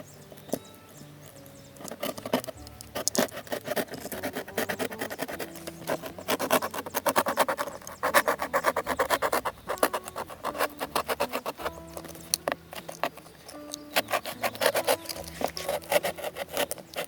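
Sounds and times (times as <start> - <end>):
faint background music: 0.0 - 17.0
hand scraping and rubbing: 0.0 - 17.0.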